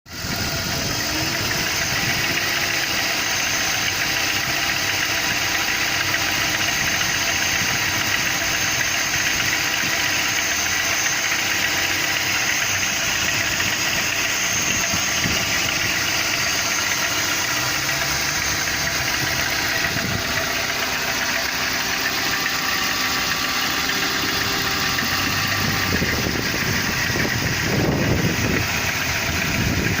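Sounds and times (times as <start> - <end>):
engine rattling: 0.0 - 30.0
car engine running: 0.1 - 30.0.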